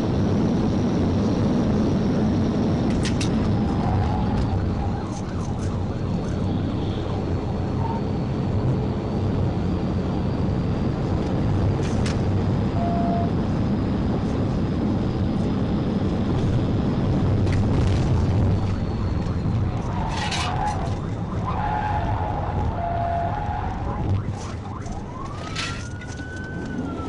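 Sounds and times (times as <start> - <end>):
car driving at high speed: 0.0 - 27.0.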